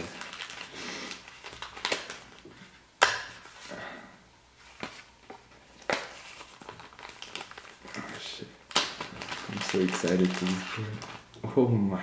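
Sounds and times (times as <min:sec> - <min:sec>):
packaging rustling and crinkling: 0:00.0 - 0:03.7, 0:04.6 - 0:11.4.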